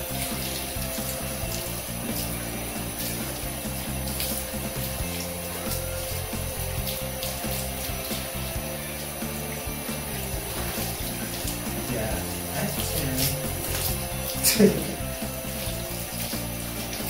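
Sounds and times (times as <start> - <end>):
background music: 0.0 - 17.0
shower water hissing on fur: 0.0 - 17.0.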